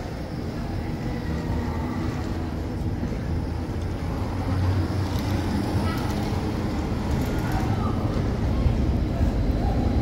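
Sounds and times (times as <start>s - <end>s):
tram rumbling: 0.0s - 10.0s.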